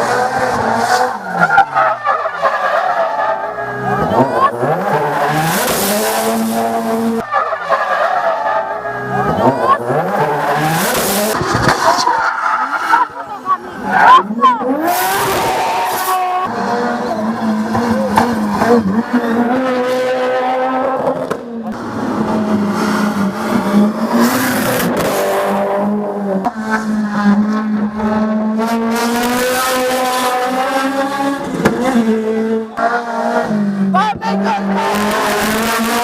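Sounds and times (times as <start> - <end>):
race car engine at high revs: 0.0 - 36.0.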